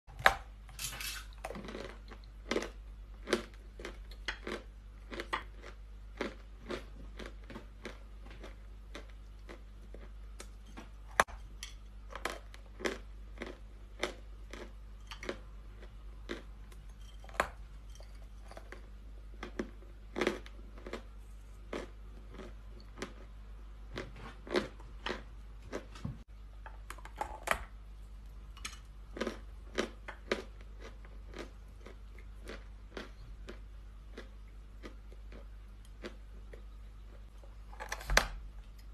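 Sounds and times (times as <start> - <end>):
faint low hum: 0.1 - 38.9.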